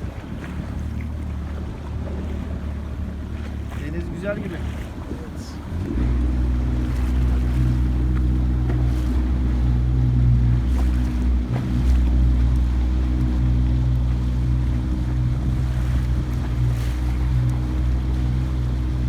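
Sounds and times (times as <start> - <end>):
boat motor droning: 0.0 - 19.0
water noise: 0.0 - 19.0
wind: 0.0 - 19.0.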